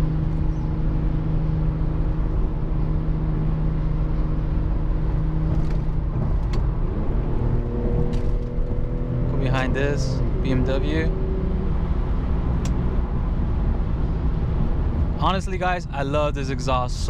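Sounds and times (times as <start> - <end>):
car engine through exhaust: 0.0 - 17.0.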